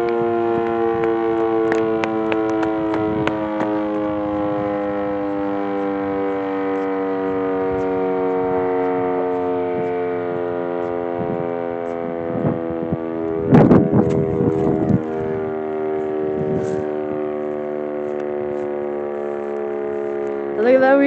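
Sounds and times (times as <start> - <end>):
warning siren: 0.0 - 21.0
wind buffeting microphone: 0.0 - 21.0.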